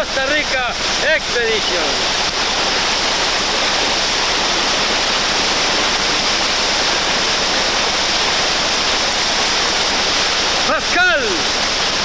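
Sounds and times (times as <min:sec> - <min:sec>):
rushing whitewater rapid: 0:00.0 - 0:12.0.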